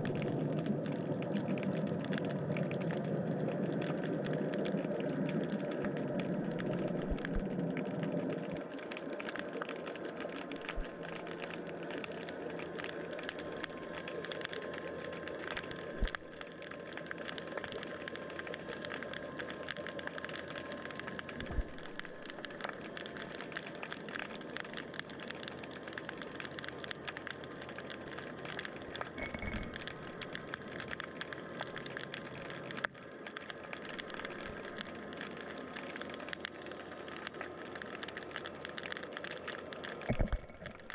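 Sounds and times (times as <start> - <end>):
underwater crackle of clicks: 0.0 - 40.9.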